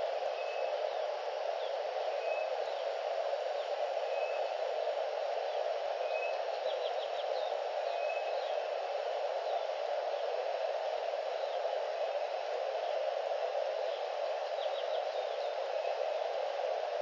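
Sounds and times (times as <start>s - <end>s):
steady noise: 0.0s - 17.0s
small birds chirping: 0.2s - 4.6s, 5.4s - 10.4s, 11.0s - 16.8s.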